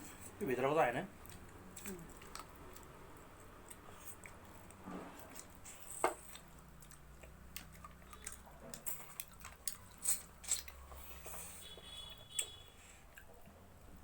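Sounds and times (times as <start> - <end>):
wet chewing: 1.1 - 13.7.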